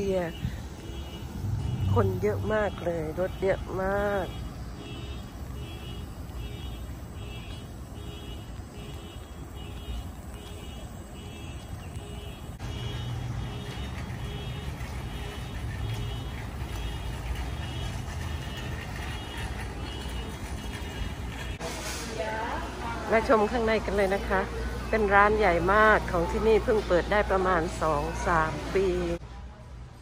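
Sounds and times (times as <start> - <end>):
low rumble of vehicles: 0.0 - 30.0.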